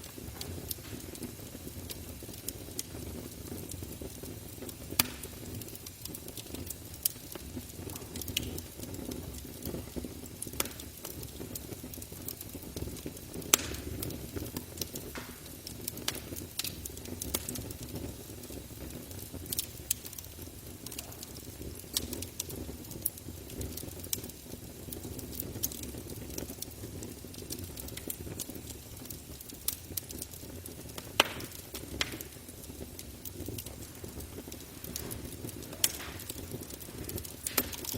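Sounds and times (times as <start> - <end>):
campfire crackling: 0.0 - 37.9
low rumble of flames: 0.0 - 37.9.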